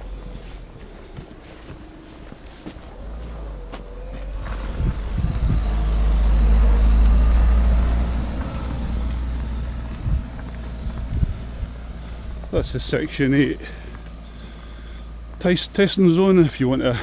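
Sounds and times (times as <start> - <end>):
vehicle driving past: 0.0 - 15.4.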